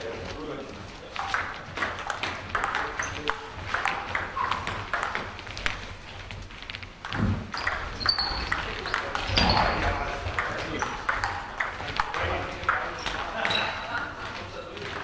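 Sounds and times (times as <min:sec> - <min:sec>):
table tennis balls clicking: 0:01.1 - 0:15.0.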